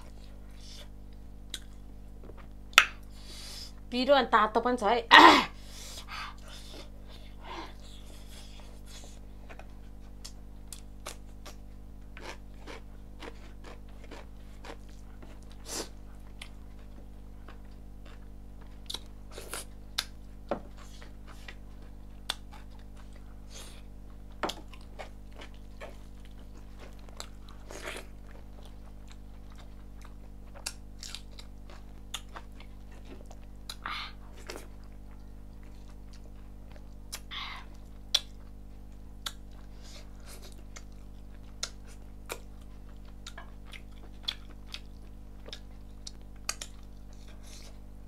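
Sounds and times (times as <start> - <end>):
person chewing food: 0.0 - 3.7, 6.0 - 48.0.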